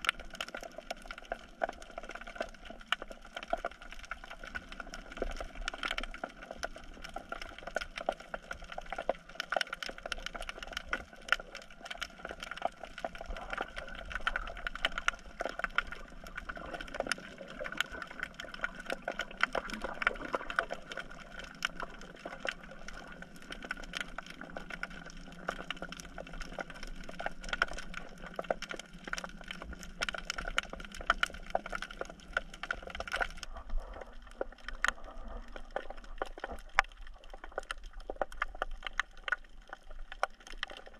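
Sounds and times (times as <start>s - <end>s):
underwater clicks and snaps: 0.0s - 40.9s.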